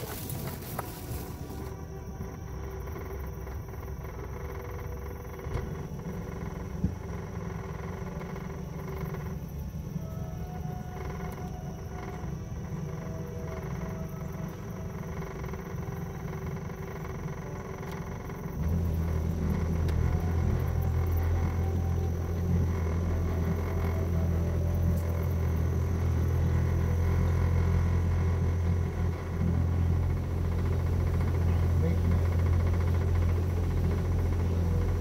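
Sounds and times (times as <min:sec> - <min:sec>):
outboard motor droning: 0:00.0 - 0:35.0.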